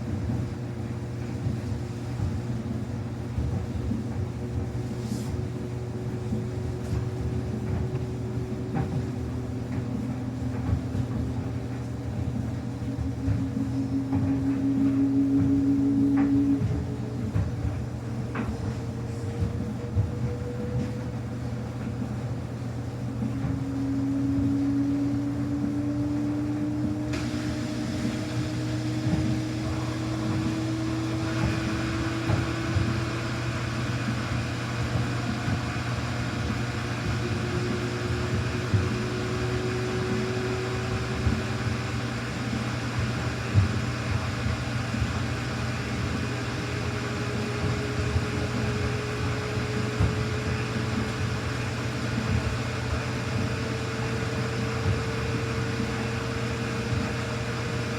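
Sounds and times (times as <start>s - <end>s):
low hum: 0.0s - 57.9s
washing machine motor whine: 0.0s - 57.9s.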